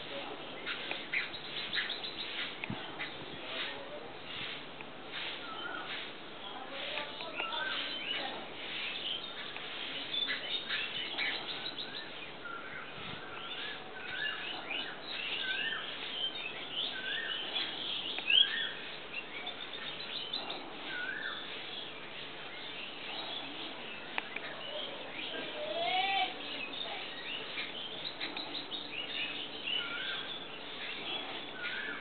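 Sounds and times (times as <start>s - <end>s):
birds chirping and twittering: 0.0s - 32.0s.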